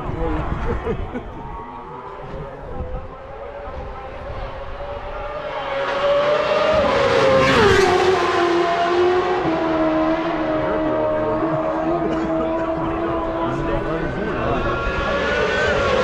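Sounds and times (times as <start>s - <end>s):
racing motorcycle passing at speed: 3.0s - 16.0s.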